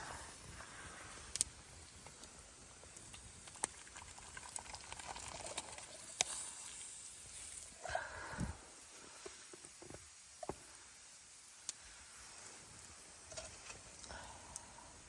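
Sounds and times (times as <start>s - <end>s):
water bubbling at a boil: 0.0s - 15.0s.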